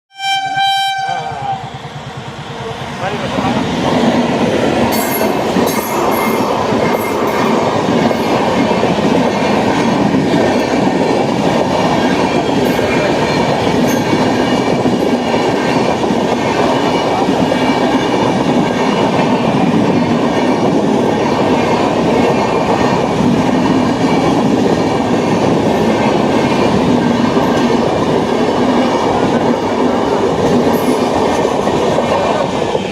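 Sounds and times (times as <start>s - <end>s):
train wheels rumbling on track: 0.4s - 32.9s.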